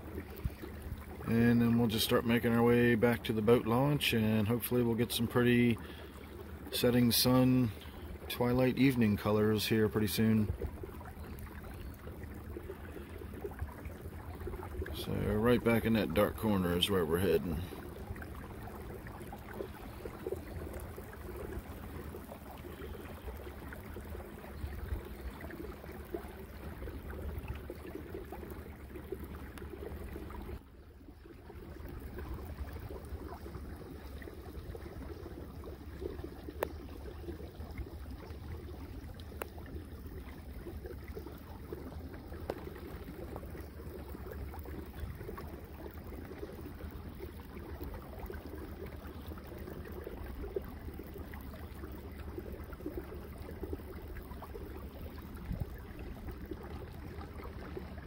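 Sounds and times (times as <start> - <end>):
water washing along hull: 0.0 - 58.0.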